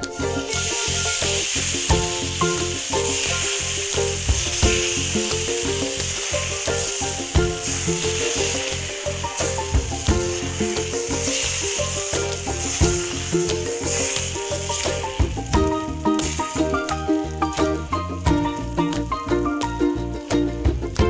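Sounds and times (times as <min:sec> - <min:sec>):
background music with steady beat: 0:00.0 - 0:21.0
batter sizzling on a hot pan: 0:00.0 - 0:21.0.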